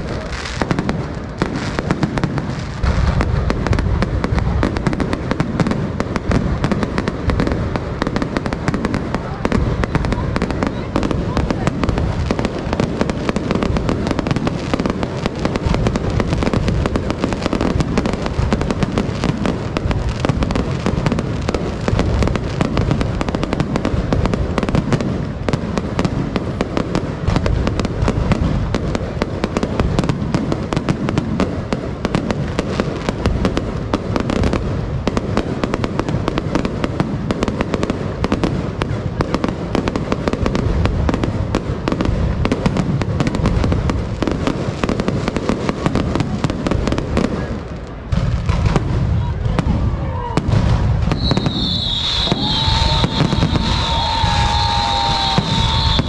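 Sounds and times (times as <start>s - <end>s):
fireworks bursting: 0.0s - 56.0s
fireworks crackling: 0.0s - 56.0s.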